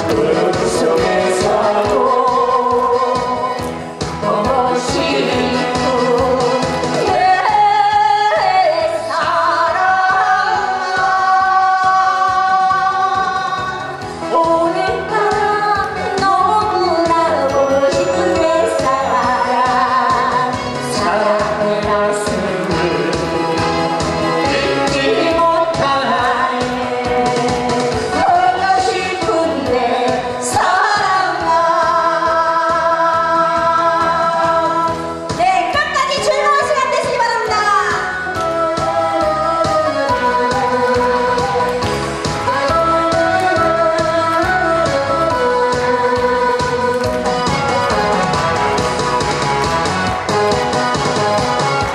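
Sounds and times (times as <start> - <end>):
woman singing into microphone: 0.0 - 47.4
amplified musical accompaniment: 0.0 - 51.9.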